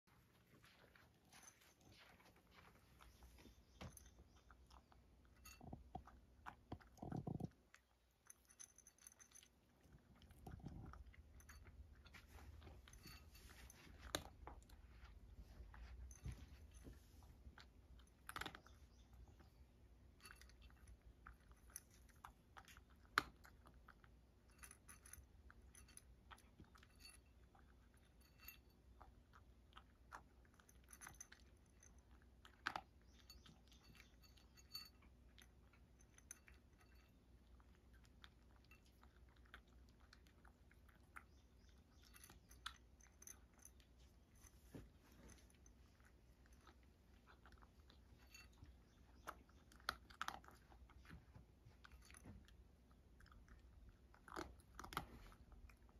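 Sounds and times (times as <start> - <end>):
cat crunching kibble: 0.6 - 16.0, 16.9 - 55.9.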